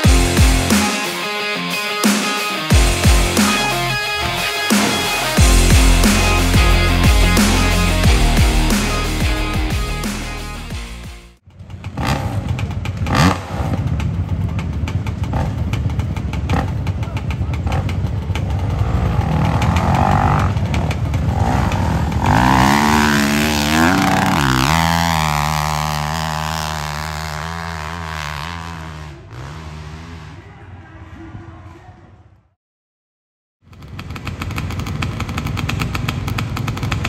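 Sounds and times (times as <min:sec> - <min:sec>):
dirt bike engine revving: 0:00.0 - 0:30.4, 0:33.7 - 0:37.0.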